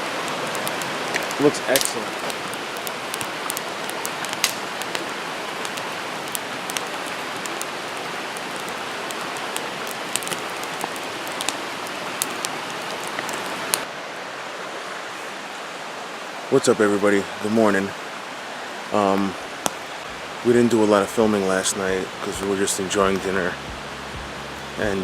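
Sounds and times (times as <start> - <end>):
campfire crackling: 0.0 - 14.6, 15.4 - 25.0.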